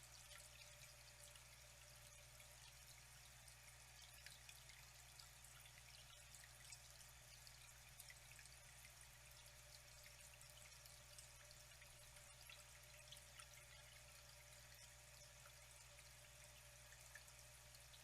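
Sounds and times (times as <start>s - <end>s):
low steady hum: 0.0s - 18.0s
water trickling and splashing: 0.0s - 18.0s.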